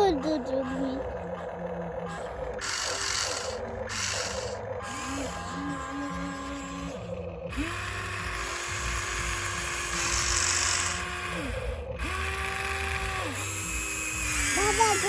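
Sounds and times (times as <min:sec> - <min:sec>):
toy gear motors whining: 0:00.0 - 0:15.0.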